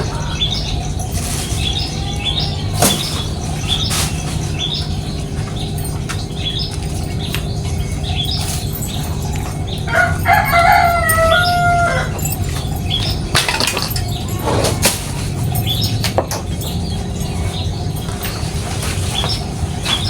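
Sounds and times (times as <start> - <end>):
sparrows chirping: 0.0 - 20.0.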